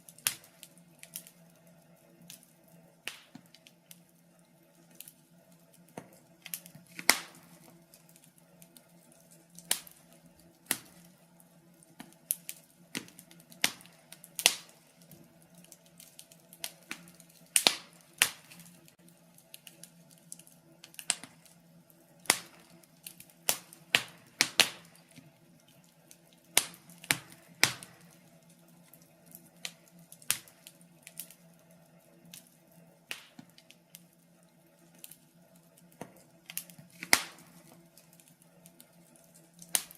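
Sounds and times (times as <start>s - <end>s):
wood logs crackling in fireplace: 0.0s - 39.9s.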